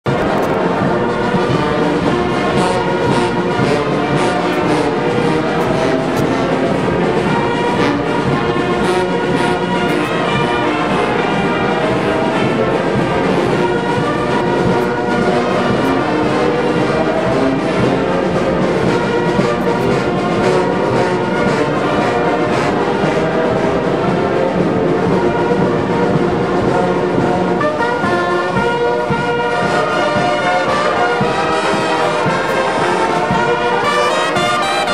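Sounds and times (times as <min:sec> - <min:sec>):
brass band playing: 0:00.1 - 0:34.9.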